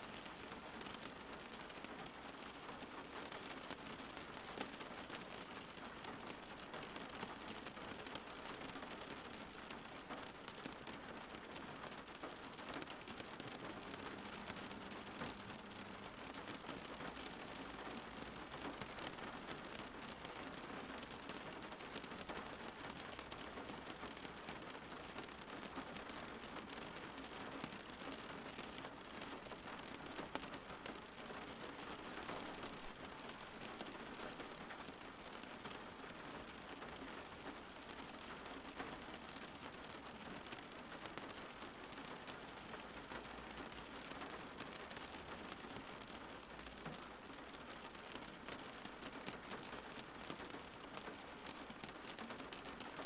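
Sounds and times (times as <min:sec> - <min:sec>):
raindrops ticking: 0:00.0 - 0:53.0
steady rain falling: 0:00.0 - 0:53.0.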